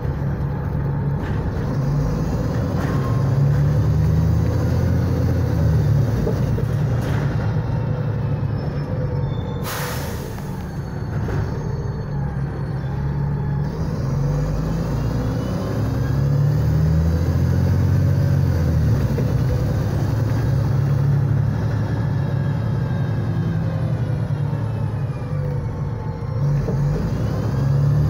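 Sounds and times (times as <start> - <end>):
bus engine drone: 0.0 - 28.0
road noise: 0.0 - 28.0.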